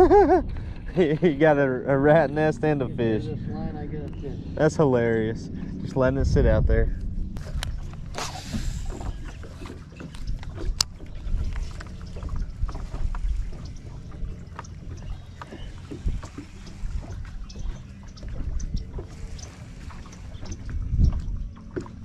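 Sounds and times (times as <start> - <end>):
water lapping against hull: 0.0 - 22.0
wind on microphone: 0.0 - 22.0.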